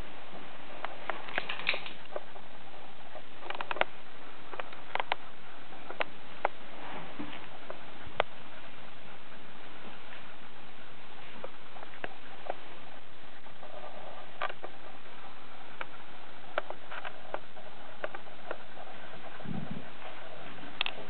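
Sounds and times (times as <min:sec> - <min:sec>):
microphone hiss: 0:00.0 - 0:21.0.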